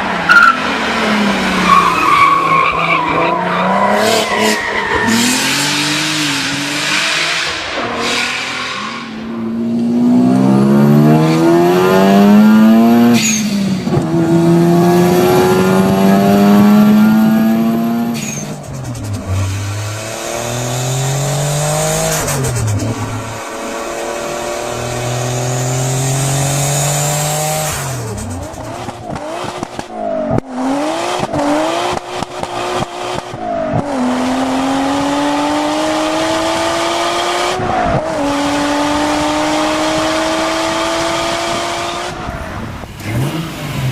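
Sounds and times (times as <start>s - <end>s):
cars accelerating hard: 0.0s - 43.9s.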